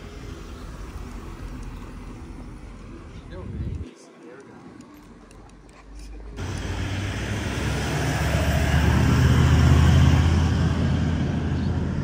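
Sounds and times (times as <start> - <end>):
engine humming: 0.0 - 3.9, 4.5 - 12.0.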